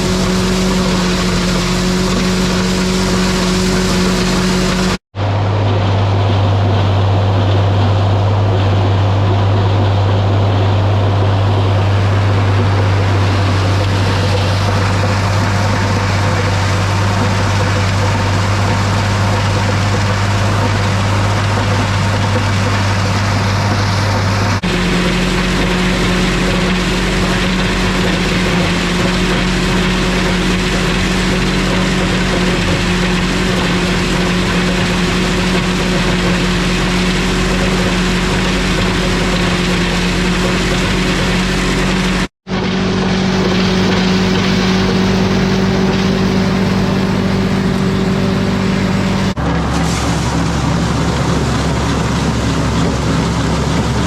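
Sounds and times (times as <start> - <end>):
grinder-mixer low hum: 0.0 - 54.0
tractor diesel engine under load: 0.0 - 54.0.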